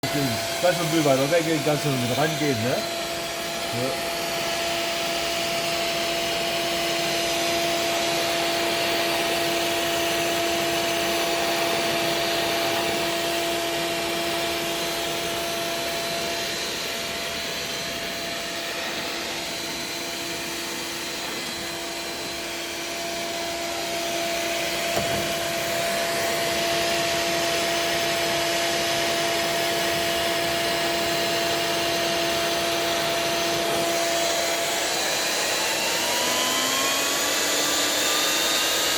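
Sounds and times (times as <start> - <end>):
hot-air blower hissing: 0.0 - 38.9
motor hum: 0.0 - 38.9.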